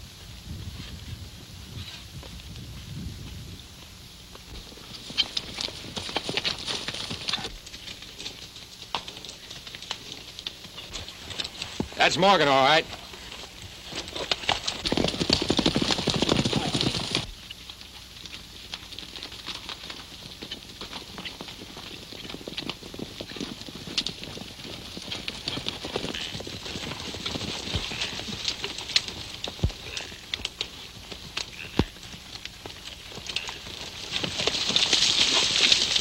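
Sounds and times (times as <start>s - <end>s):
horse hoofbeats on dirt: 0.0s - 36.0s.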